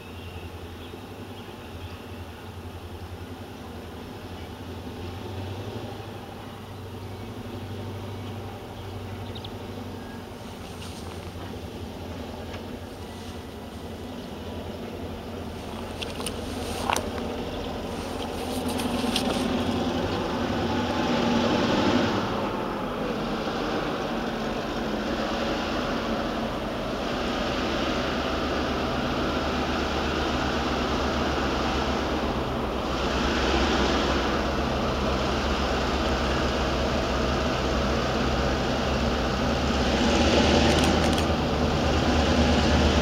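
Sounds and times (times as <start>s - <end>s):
diesel locomotive rumbling: 0.0s - 43.0s.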